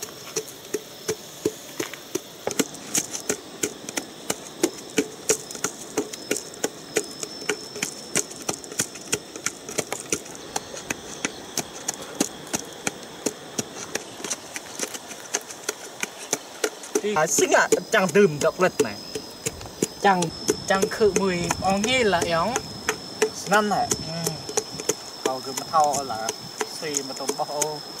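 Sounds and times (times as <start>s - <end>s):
wooden pestle pounding: 0.3s - 28.0s.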